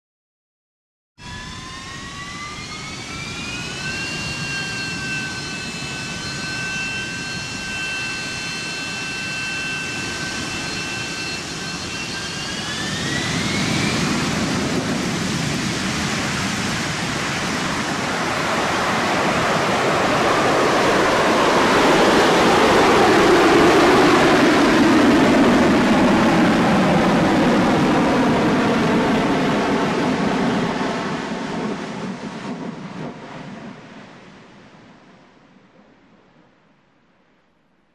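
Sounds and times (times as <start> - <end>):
jet engine whine and roar: 1.2 - 36.6.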